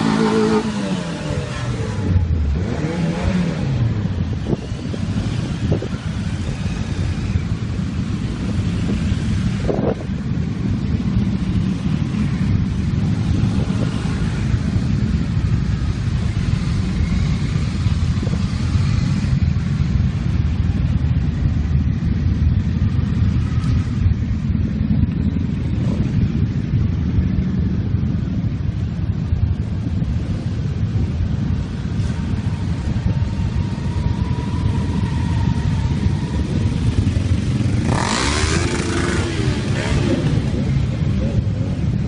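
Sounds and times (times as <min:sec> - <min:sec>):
motorcycles riding past: 0:00.0 - 0:42.0.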